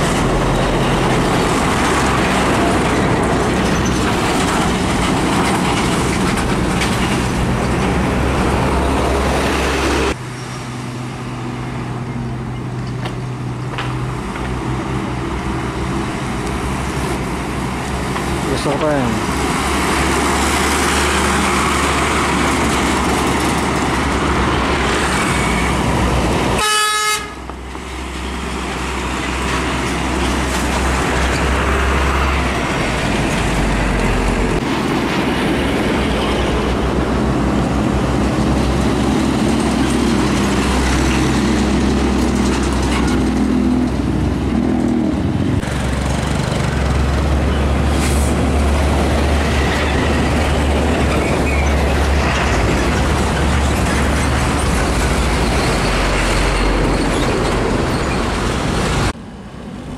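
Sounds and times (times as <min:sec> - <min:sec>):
diesel trucks driving past: 0:00.0 - 0:59.9
tyre and traffic noise: 0:00.0 - 0:59.9.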